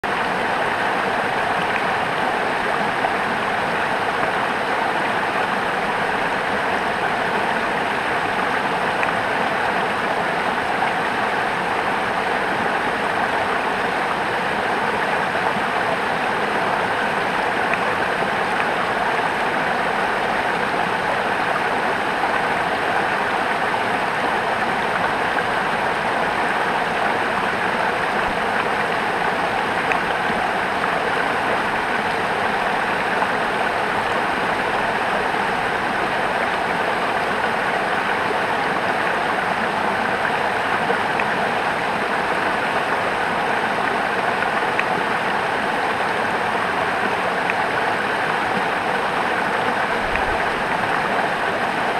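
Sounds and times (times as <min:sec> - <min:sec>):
waterfall cascading: 0:00.0 - 0:51.9.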